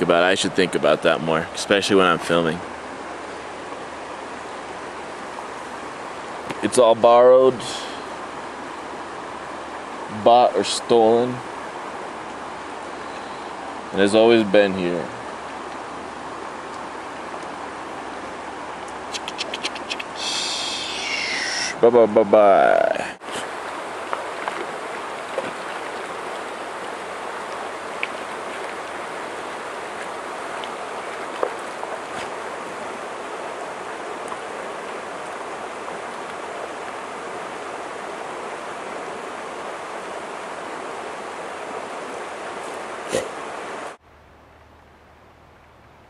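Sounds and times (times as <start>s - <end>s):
creek rushing over rocks: 0.0s - 44.0s.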